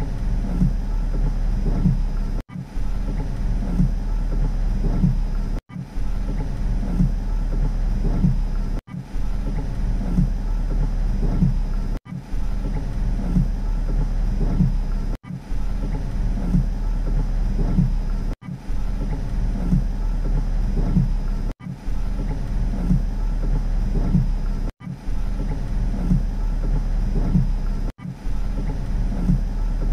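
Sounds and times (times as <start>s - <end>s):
rain on a car roof: 0.0s - 29.9s.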